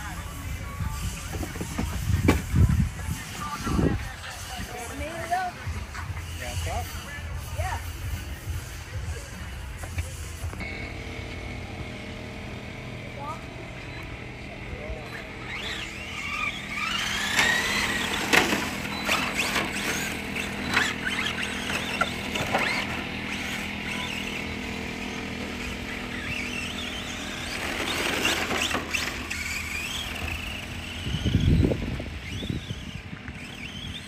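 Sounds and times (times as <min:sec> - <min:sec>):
rc car motor whine: 0:00.0 - 0:34.0.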